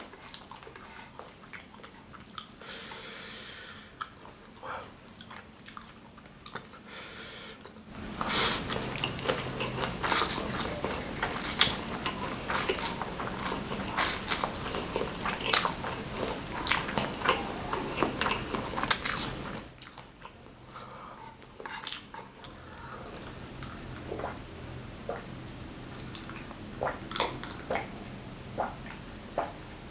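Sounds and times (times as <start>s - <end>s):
chewing and crunching food: 0.0s - 3.0s, 3.9s - 6.9s, 7.6s - 29.6s.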